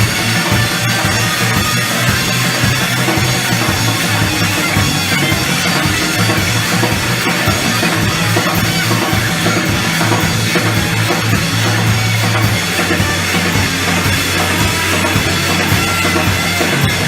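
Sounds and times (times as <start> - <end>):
cymbals: 0.0 - 17.0
drum kit: 0.0 - 17.0
guitars: 0.0 - 17.0
pulsing bass line: 0.0 - 17.0.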